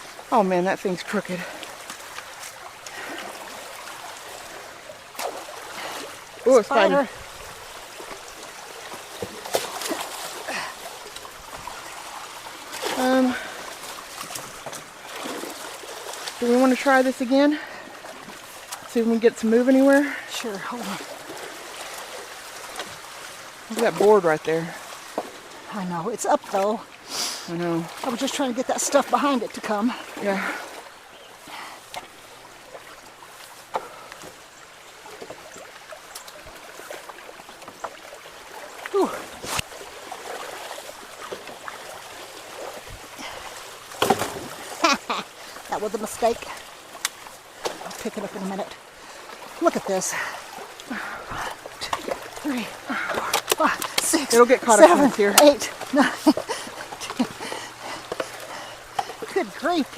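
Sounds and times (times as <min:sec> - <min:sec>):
splashes and knocks: 0:00.0 - 0:26.8, 0:31.5 - 0:59.9
water trickling through culvert: 0:00.0 - 0:59.9.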